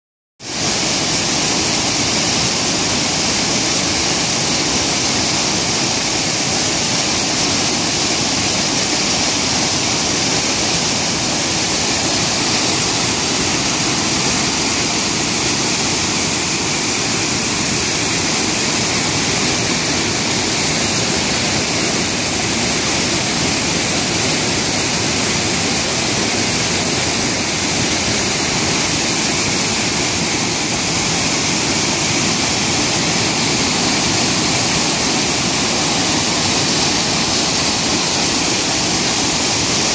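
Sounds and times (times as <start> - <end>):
waterfall rushing: 0.4 - 39.9.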